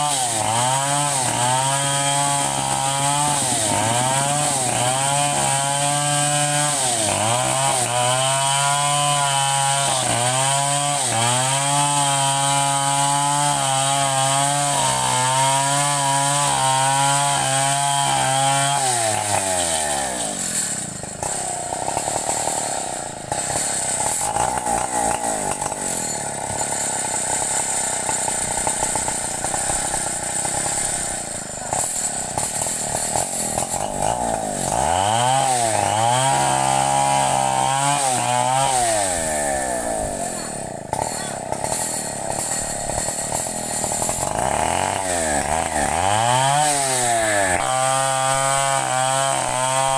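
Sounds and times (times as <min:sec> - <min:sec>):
chainsaw engine cutting: 0:00.0 - 0:49.9.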